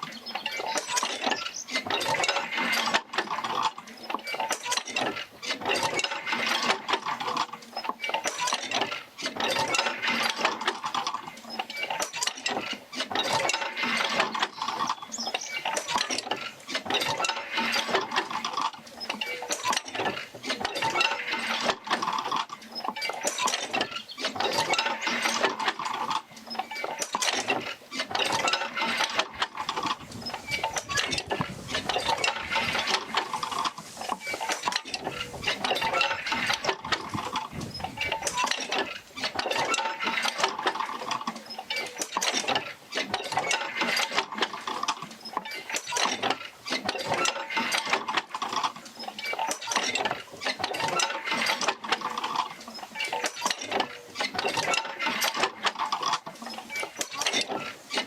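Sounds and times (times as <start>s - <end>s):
mechanical clanking and creaking: 0.0s - 58.0s.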